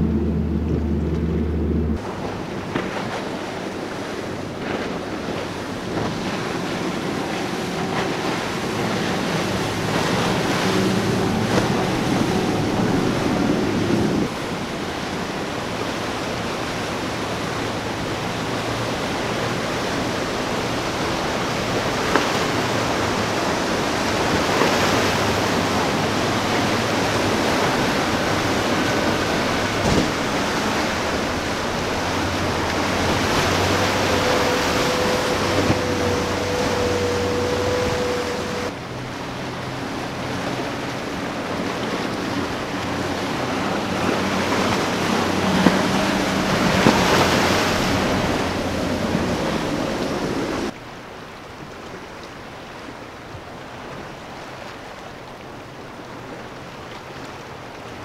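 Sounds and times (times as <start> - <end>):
wind on microphone: 0.0 - 50.8
churning surf and boat wake: 0.0 - 58.0
powerboat engines droning: 0.0 - 58.0.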